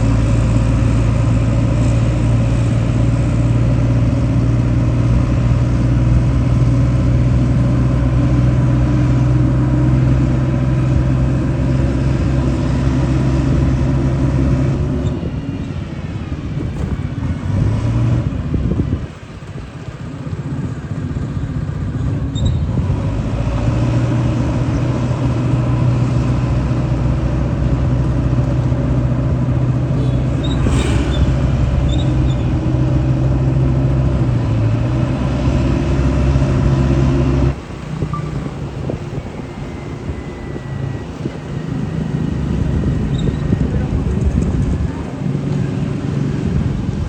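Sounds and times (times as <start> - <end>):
heavy diesel engine drone: 0.0 - 47.0.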